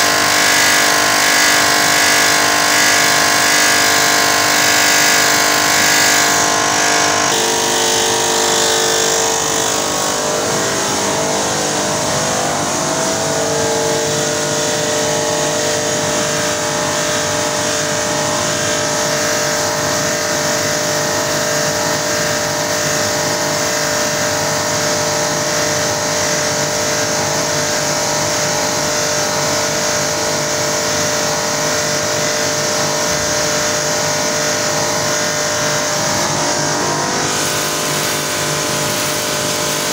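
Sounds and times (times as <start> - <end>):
production line machinery humming: 0.0 - 39.9.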